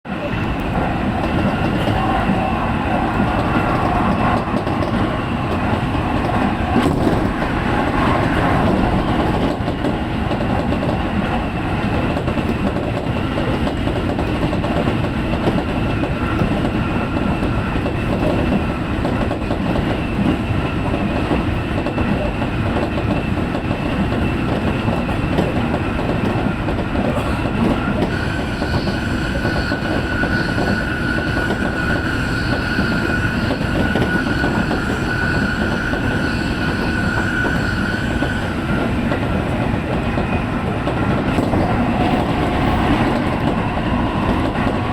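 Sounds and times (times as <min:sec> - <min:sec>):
track clickety-clack: 0:00.1 - 0:44.9
train wheels rumbling on rails: 0:00.1 - 0:44.9.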